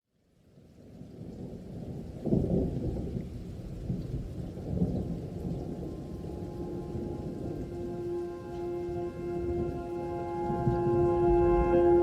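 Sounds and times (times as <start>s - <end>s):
rain: 0.0s - 12.0s
rolling thunder: 0.9s - 12.0s
thunder clap: 1.2s - 12.0s.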